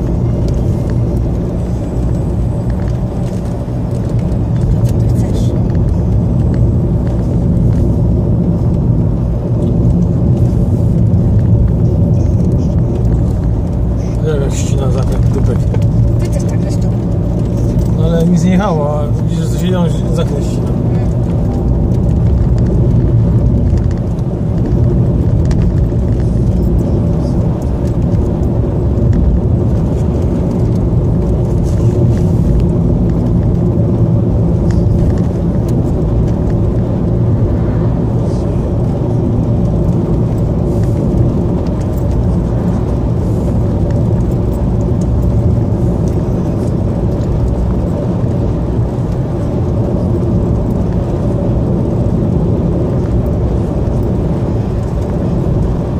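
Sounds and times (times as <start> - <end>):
car interior road rumble: 0.0 - 55.9.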